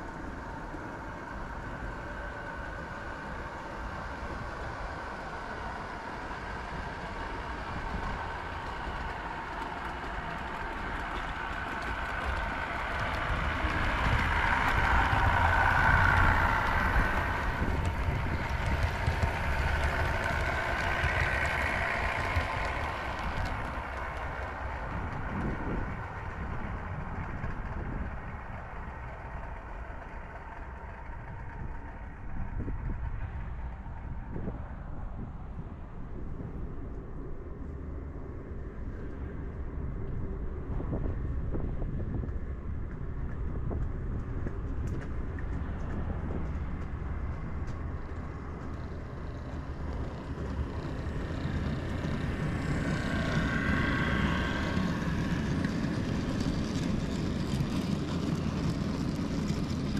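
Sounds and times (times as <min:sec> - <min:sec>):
train running past with whine: 0:00.0 - 0:59.9.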